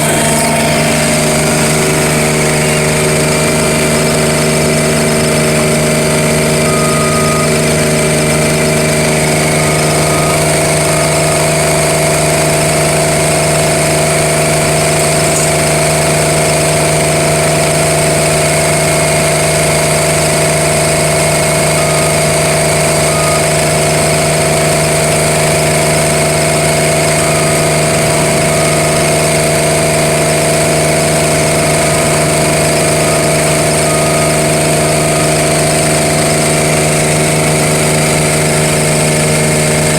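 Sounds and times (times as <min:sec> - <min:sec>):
milling machinery hum: 0:00.0 - 0:39.9.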